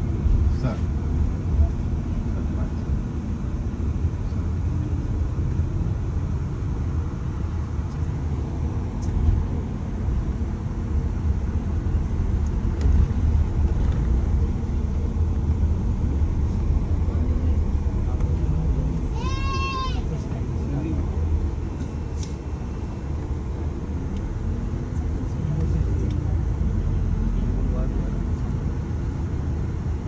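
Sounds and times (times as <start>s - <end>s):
vehicle low rumble: 0.0s - 30.0s.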